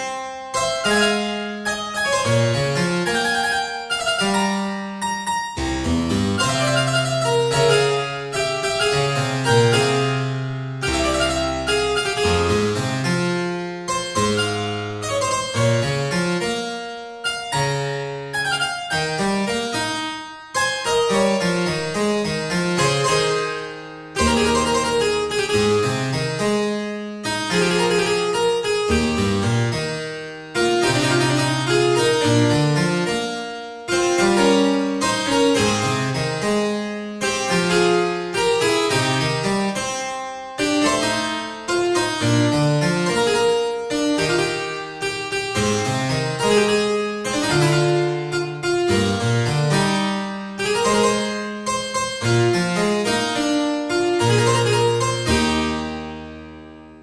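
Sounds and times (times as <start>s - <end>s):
harpsichord style keyboard music: 0.0s - 57.0s.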